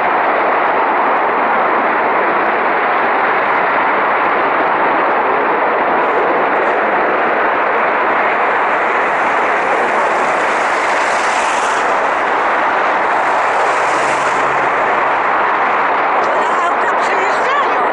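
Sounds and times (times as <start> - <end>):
gas burning with loud rushing: 0.0 - 17.9.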